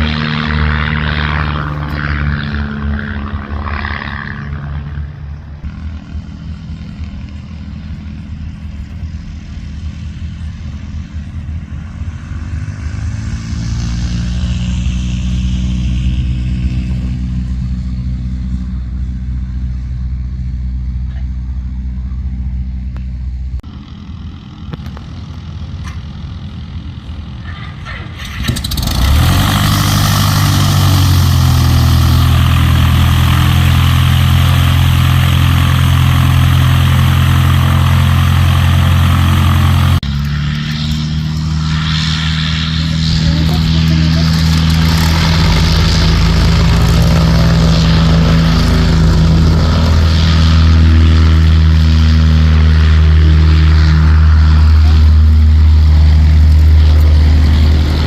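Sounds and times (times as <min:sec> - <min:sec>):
propeller aircraft engine: 0:00.0 - 0:58.0.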